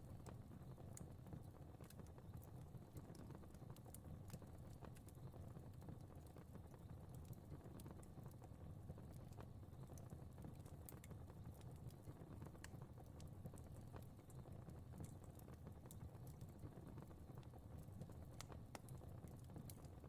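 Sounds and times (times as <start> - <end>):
crackling fire: 0.0 - 20.0.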